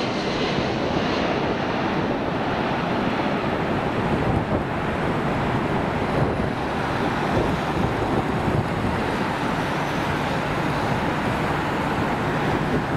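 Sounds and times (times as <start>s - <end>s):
jet airliner roaring overhead: 0.0s - 12.9s.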